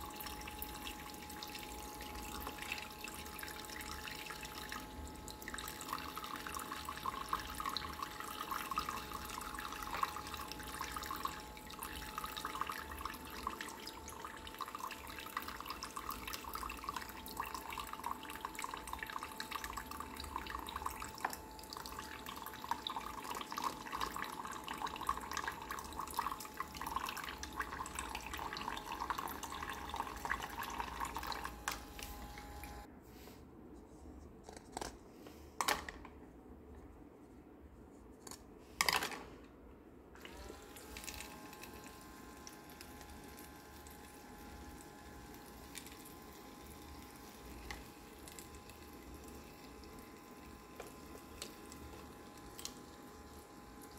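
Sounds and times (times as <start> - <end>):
small pump humming: 0.0 - 32.9, 40.1 - 53.9
water trickling into plastic basin: 0.1 - 31.7, 40.2 - 53.9.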